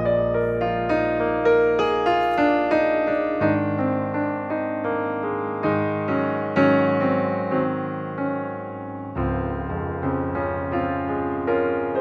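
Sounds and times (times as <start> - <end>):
slow piano music: 0.0 - 12.0.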